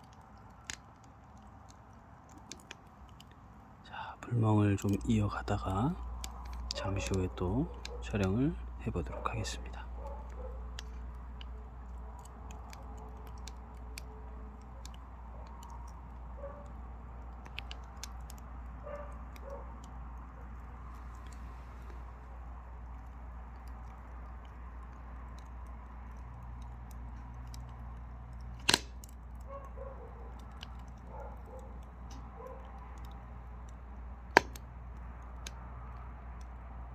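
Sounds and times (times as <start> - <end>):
firewood crackling: 0.0 - 36.9
firewood popping loudly: 0.0 - 36.9.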